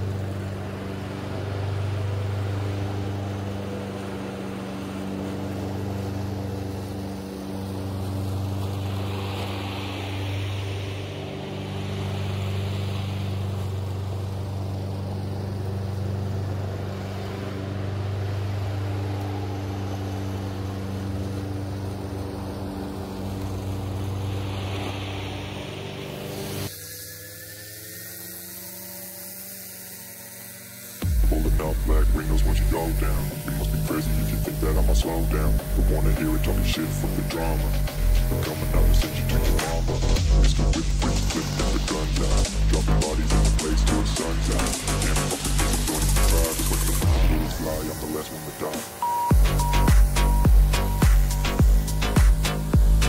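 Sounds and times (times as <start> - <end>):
small petrol engine running: 0.0 - 53.0.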